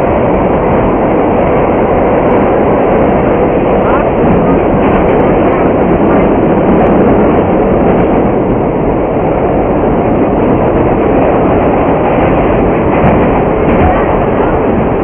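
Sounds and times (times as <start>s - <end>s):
subway car rumbling: 0.0s - 15.0s.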